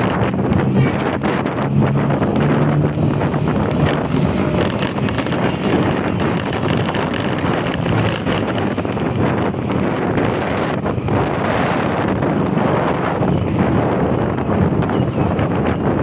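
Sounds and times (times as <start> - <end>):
low engine hum: 0.0 - 16.0
wind rushing over microphone: 0.0 - 16.0.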